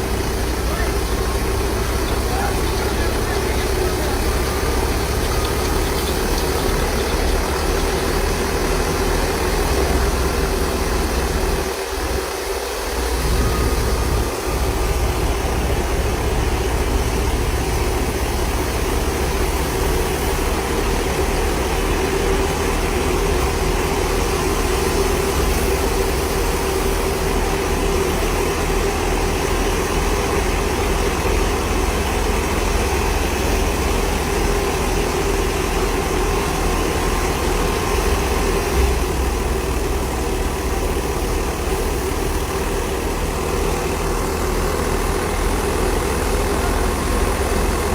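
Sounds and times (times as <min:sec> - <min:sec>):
diesel engine rumbling: 0:00.0 - 0:47.9.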